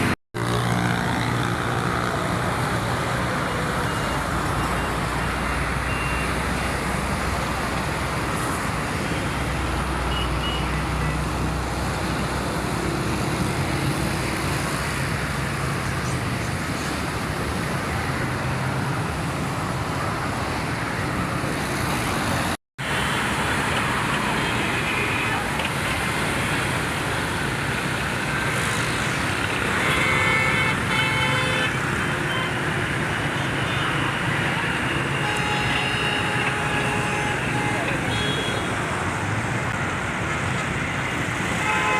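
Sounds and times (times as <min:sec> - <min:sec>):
road traffic noise: 0:00.0 - 0:41.9.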